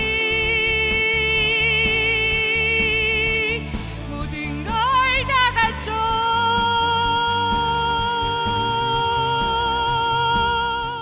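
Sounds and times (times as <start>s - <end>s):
backing track music: 0.0s - 11.0s.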